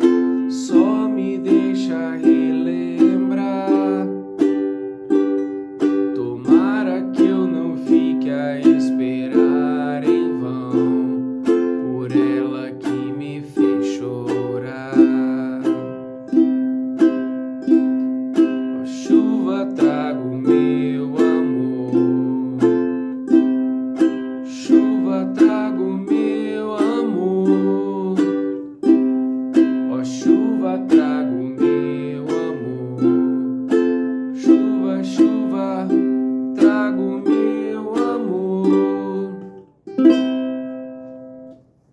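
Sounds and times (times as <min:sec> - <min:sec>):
strummed acoustic string instrument: 0:00.0 - 0:41.9.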